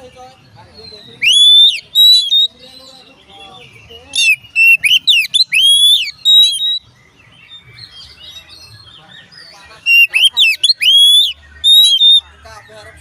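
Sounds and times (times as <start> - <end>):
bird singing whistled phrases: 0.7 - 6.9, 7.5 - 12.4.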